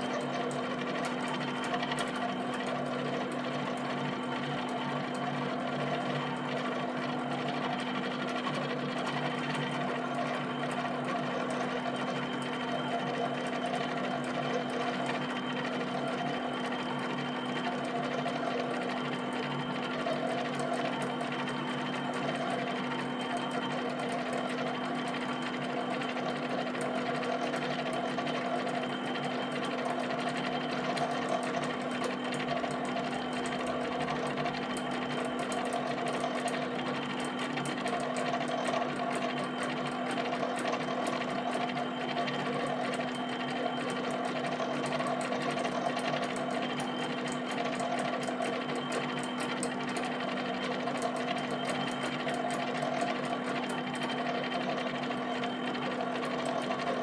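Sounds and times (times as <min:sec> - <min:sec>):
pen plotter motors chattering: 0:00.0 - 0:57.0.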